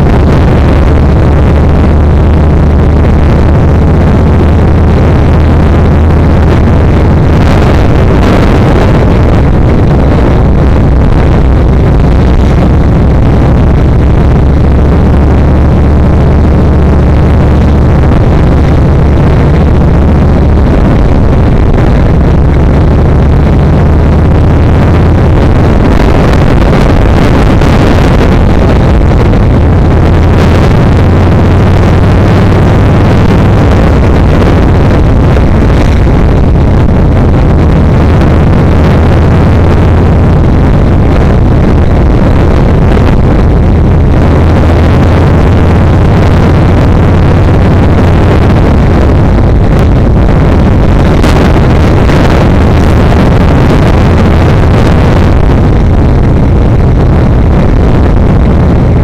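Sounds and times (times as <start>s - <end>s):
motorcycle engine running: 0.0s - 57.2s
constant rushing noise: 0.0s - 59.0s.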